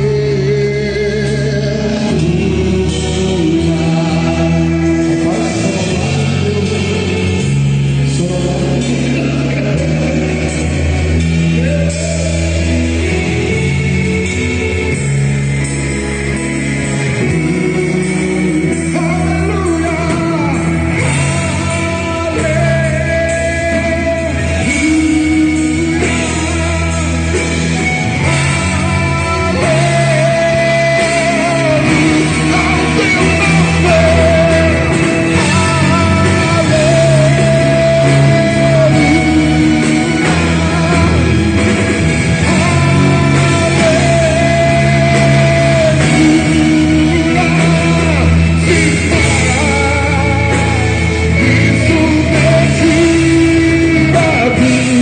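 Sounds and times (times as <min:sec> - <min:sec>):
band playing gospel song: 0:00.0 - 0:55.0
man singing lead vocal: 0:00.0 - 0:55.0.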